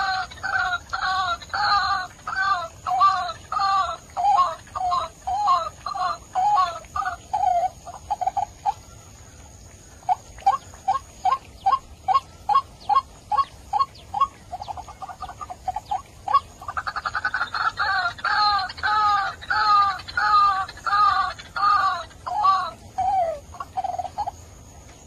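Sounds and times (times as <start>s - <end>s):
waterhen calling: 0.0s - 25.0s.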